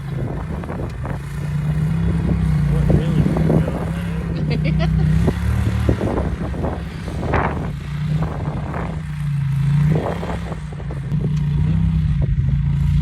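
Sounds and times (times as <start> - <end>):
utv engine revving: 0.0 - 13.0.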